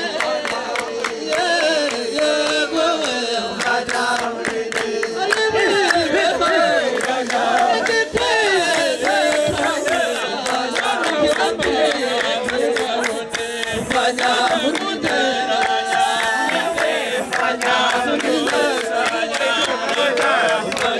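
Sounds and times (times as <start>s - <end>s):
group singing and chanting: 0.0s - 20.9s.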